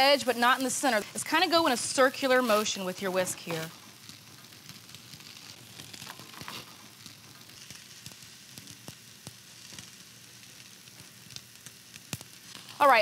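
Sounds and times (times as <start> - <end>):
eggs sizzling in butter: 0.0 - 13.0.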